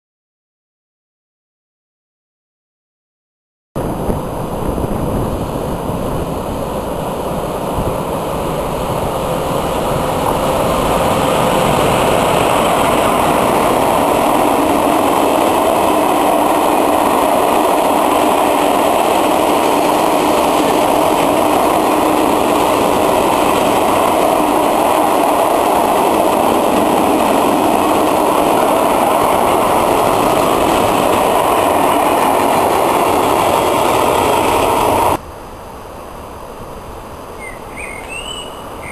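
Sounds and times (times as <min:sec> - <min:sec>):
freight train rumbling past: 0:03.8 - 0:38.9.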